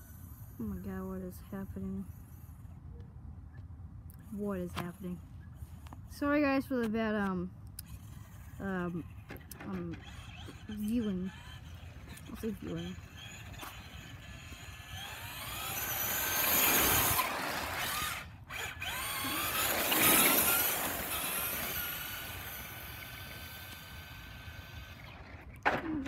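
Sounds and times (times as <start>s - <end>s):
electric toy car motor whining: 0.0s - 2.8s, 7.8s - 25.8s.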